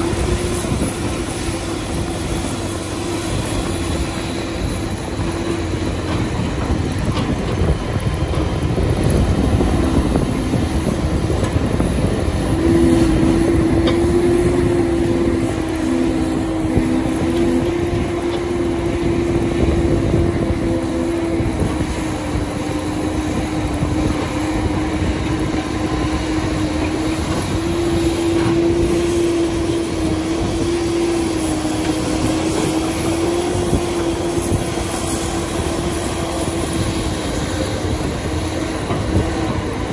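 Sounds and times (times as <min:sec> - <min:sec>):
excavator engine whining: 0:00.0 - 0:39.9.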